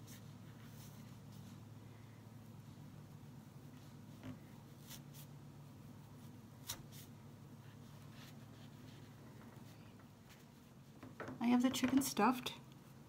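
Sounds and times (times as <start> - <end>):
low steady hum: 0.0 - 13.0
rustling and scratching of stuffing: 0.0 - 13.0.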